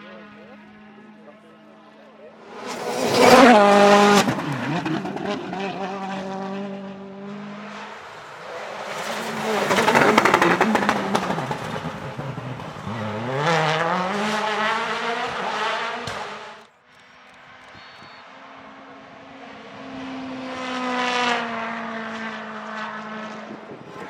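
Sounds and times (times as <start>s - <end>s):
rally car engine at high revs: 2.4s - 24.0s.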